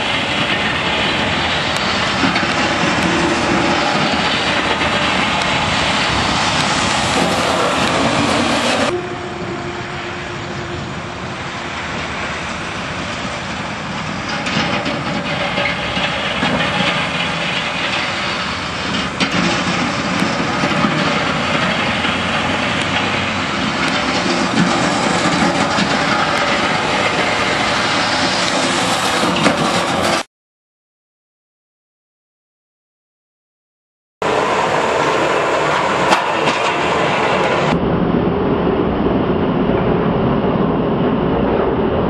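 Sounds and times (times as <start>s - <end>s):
diesel truck engine: 0.0s - 30.3s, 34.2s - 42.0s
road noise: 0.0s - 30.3s, 34.2s - 42.0s.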